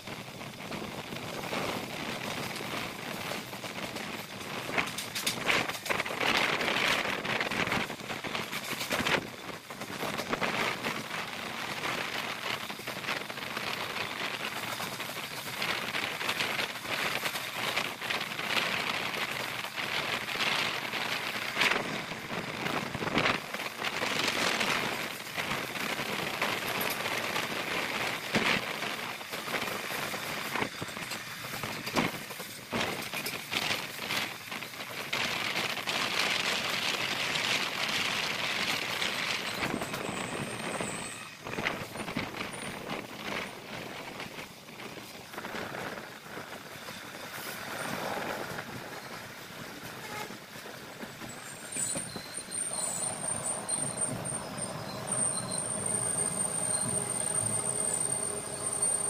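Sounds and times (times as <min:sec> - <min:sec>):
sharp clacks of train wheels: 0:00.0 - 0:59.0
train wheels rushing on rail: 0:00.0 - 0:59.0.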